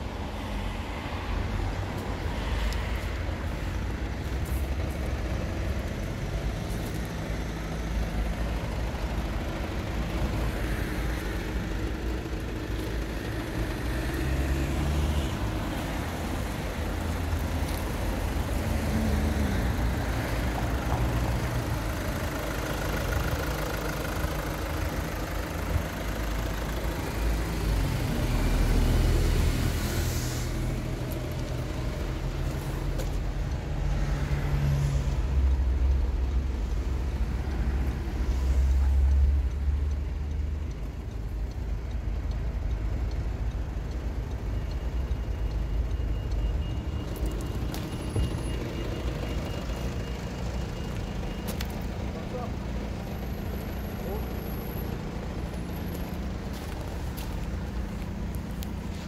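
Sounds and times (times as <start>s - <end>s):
rumble of motor vehicles: 0.0s - 59.0s.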